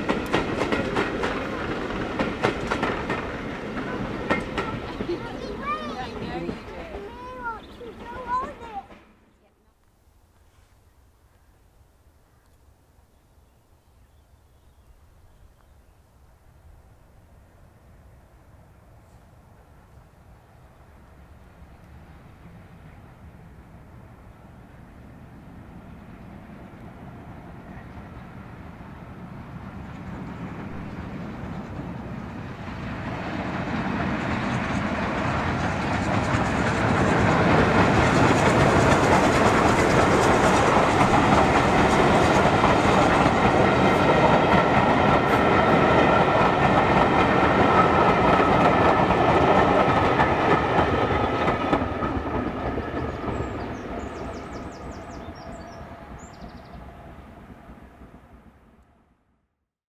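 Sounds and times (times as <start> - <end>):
steam train passing: 0.0 - 10.7, 13.7 - 59.3.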